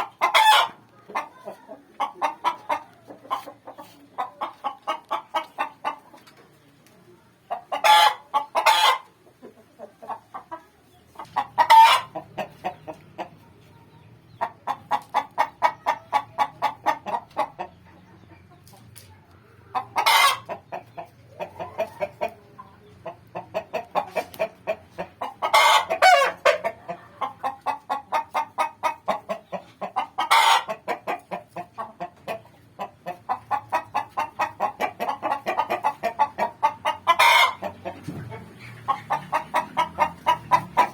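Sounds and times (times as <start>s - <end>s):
hen clucking rapidly: 0.0s - 18.9s, 19.6s - 40.9s.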